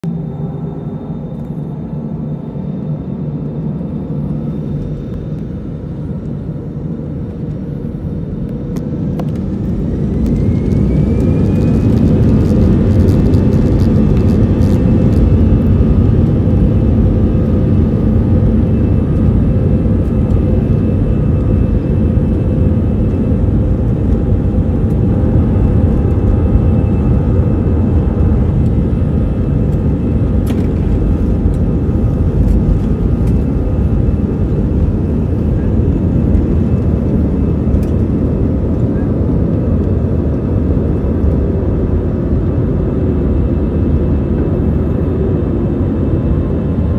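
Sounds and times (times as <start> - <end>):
jet engine roar: 0.0 - 46.9
jet engine whine: 0.0 - 46.9.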